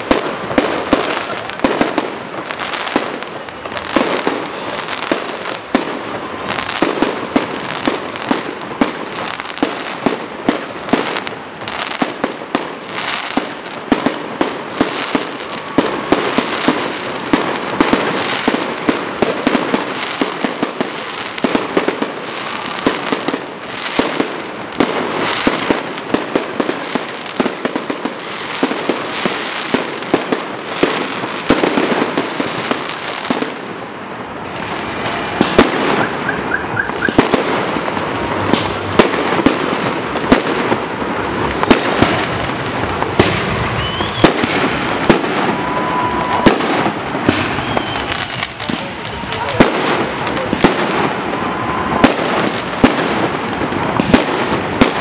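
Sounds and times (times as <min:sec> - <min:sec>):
fireworks bangs: 0:00.0 - 0:55.0
fireworks crackling: 0:00.0 - 0:55.0.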